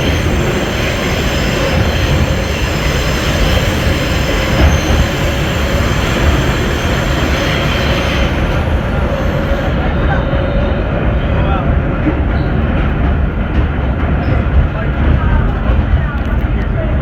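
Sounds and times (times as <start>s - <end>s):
subway wheels rumbling on track: 0.0s - 17.0s.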